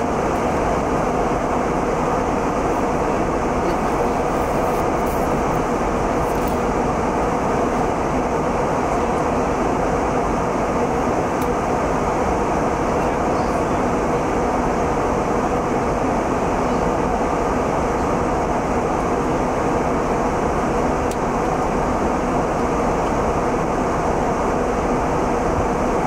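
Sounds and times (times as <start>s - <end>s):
airliner cabin engine rush: 0.0s - 26.0s.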